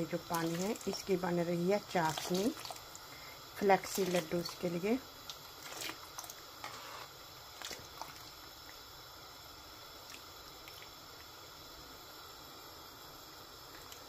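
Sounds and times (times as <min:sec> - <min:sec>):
syrup boiling with bubbling hiss: 0:00.0 - 0:14.0.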